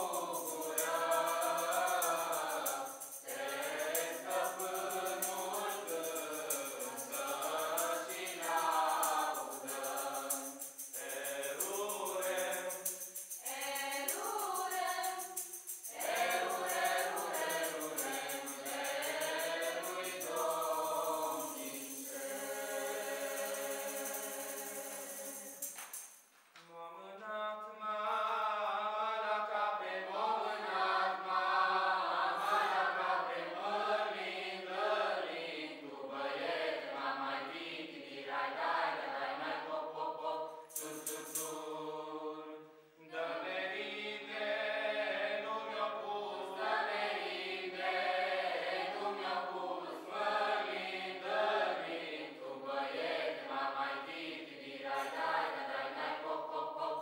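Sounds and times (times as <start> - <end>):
mixed choir singing a carol: 0.0 - 26.0, 26.7 - 57.0.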